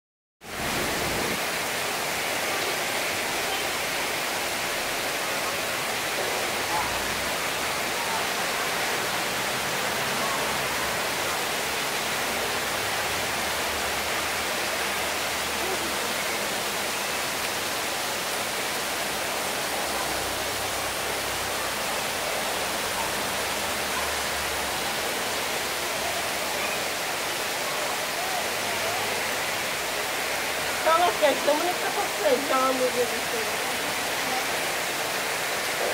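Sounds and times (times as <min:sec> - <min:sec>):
heavy rain pouring: 0:00.4 - 0:35.9.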